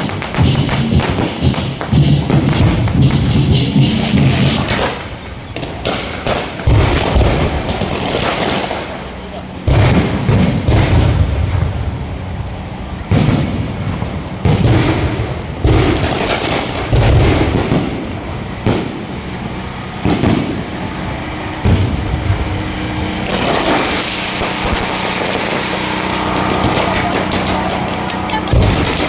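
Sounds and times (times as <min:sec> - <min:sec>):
firework shells booming: 0:00.0 - 0:29.0.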